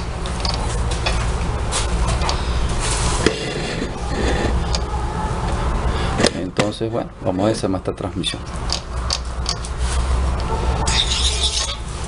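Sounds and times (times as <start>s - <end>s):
washing machine spinning hum: 0.0s - 12.0s.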